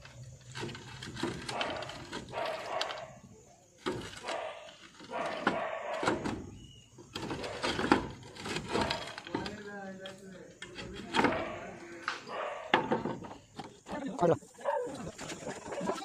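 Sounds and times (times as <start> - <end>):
roof tiles clinking and scraping: 0.0 - 16.0.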